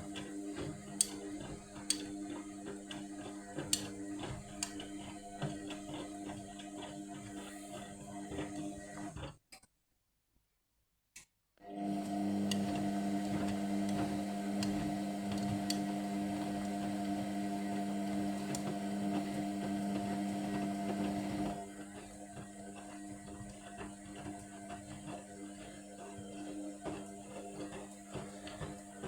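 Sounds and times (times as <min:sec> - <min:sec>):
washing machine motor humming whine: 0:00.0 - 0:09.2, 0:11.6 - 0:29.0.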